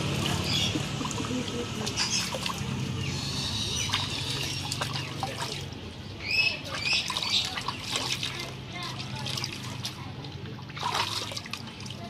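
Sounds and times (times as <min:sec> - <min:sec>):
water splashing in a bucket: 0:00.0 - 0:12.0.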